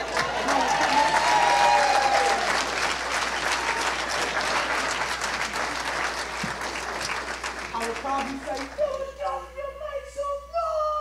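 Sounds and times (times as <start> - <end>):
audience clapping: 0.0 - 9.2.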